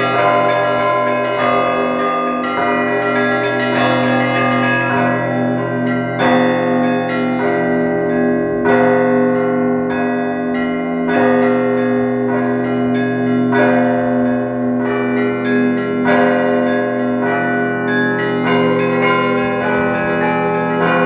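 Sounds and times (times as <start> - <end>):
church bells pealing: 0.0 - 21.0.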